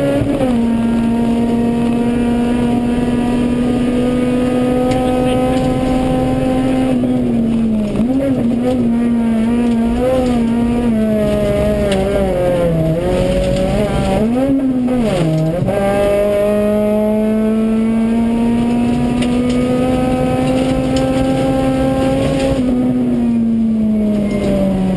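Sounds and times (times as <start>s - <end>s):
rally car engine from inside cabin: 0.0s - 24.9s.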